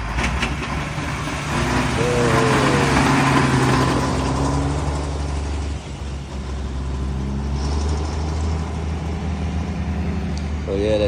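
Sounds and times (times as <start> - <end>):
lorry engine passing slowly: 0.0 - 11.0.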